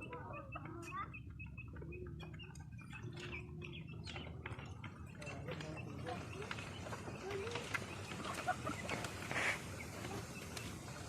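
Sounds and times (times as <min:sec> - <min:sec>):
chickens calling softly: 0:00.0 - 0:11.0.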